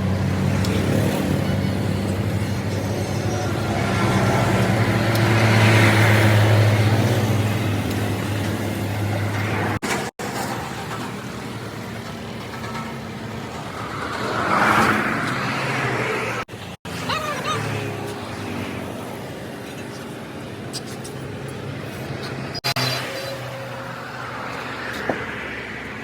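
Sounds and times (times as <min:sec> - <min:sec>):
steady engine hum: 0:00.0 - 0:26.0
traffic passing: 0:00.0 - 0:26.0.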